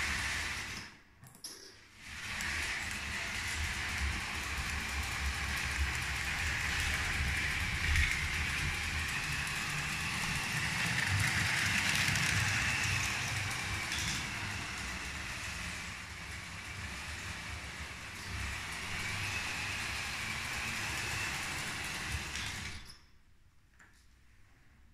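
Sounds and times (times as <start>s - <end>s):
toy train wheels rattling on rails: 2.0s - 23.0s
electric motor whine: 2.1s - 22.9s.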